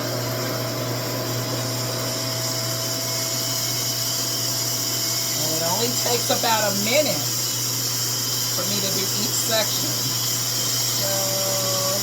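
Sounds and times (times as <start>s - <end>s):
hair dryer blowing air: 0.0s - 12.0s.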